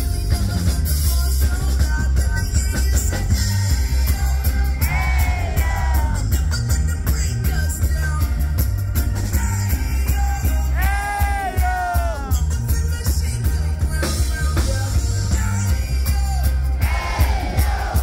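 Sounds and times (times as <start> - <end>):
person singing: 0.0 - 8.5, 9.2 - 18.0
heavy bass line: 0.0 - 18.0
reggae rock band playing: 0.0 - 18.0.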